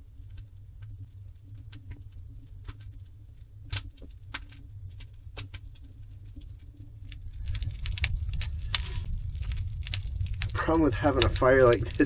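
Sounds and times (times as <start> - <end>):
low rumble: 0.0 - 12.0
wood fire crackling and popping: 0.0 - 12.0.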